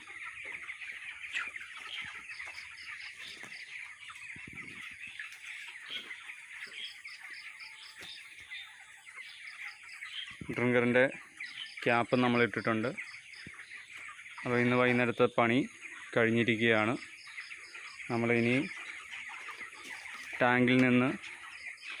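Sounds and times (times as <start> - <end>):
chickens peeping and clucking: 0.0 - 22.0.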